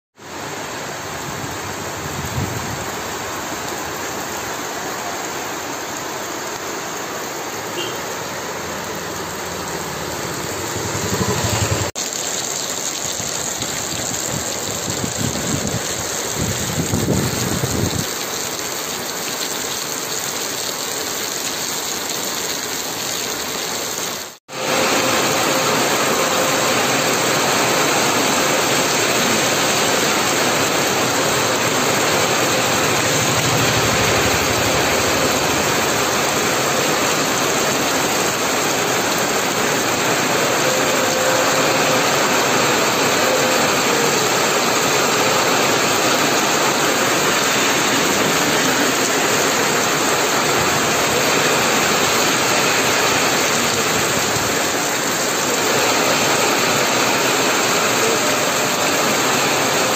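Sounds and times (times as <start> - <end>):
heavy rain on road: 0.2 - 59.9
vehicles passing on wet road: 0.2 - 59.9.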